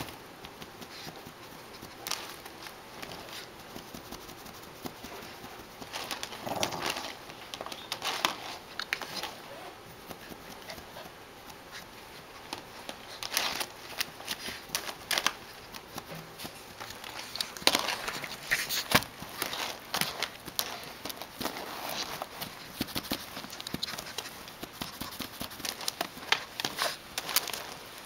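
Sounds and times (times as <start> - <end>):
plastic tube crinkling and rustling: 0.0 - 28.0.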